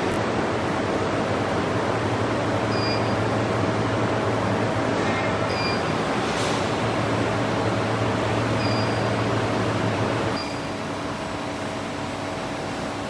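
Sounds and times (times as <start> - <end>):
furnace machine hum: 0.0 - 13.0
very high whine: 0.0 - 13.0.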